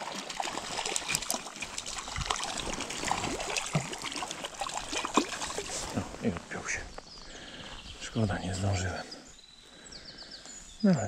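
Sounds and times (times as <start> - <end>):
stream water trickling: 0.0 - 9.5.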